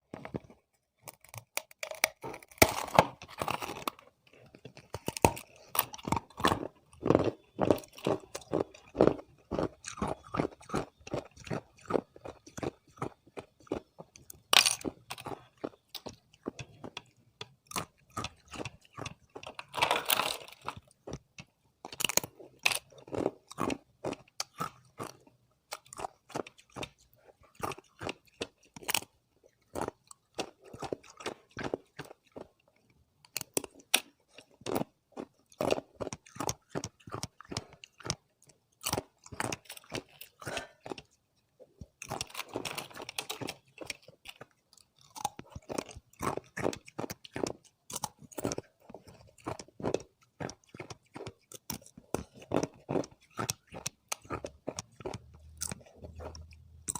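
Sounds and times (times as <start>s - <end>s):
ice being bitten and chewed: 0.0s - 56.9s.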